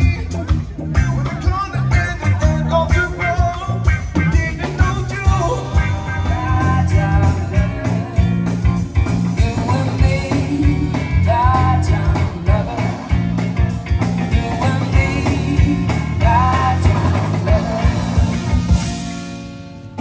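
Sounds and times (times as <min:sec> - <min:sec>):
person singing: 0:00.0 - 0:18.6
bass line: 0:00.0 - 0:20.0
drums: 0:00.0 - 0:20.0
electric guitar: 0:00.0 - 0:20.0.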